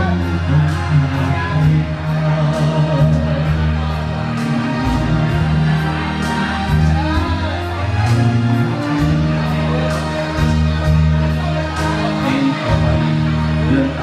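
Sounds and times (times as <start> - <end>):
bass line: 0.0 - 14.0.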